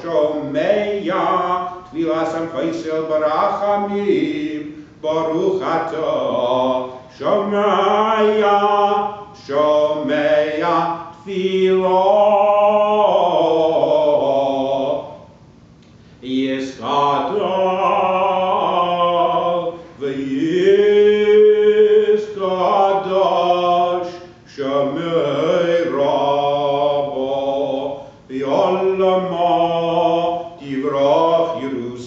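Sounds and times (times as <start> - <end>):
man chanting: 0.0 - 15.3, 16.2 - 32.0.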